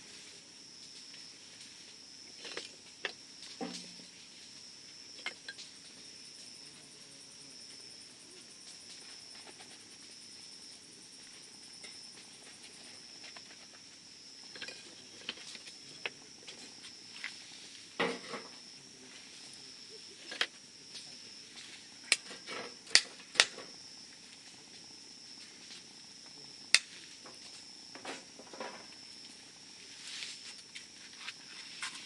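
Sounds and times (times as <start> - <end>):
insects trilling: 0.0 - 32.0
campfire crackling and popping: 0.7 - 6.6, 7.7 - 18.7, 19.5 - 29.7.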